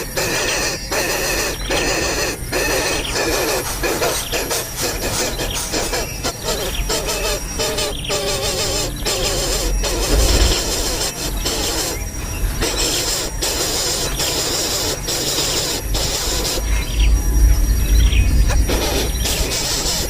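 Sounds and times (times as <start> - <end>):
nestling birds begging calls: 0.1 - 20.0.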